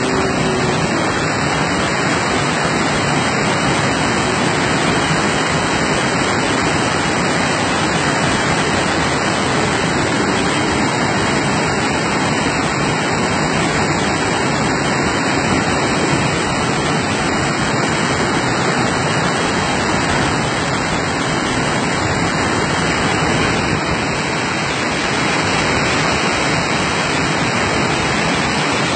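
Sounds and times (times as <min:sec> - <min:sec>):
water rushing over a weir: 0:00.0 - 0:28.9.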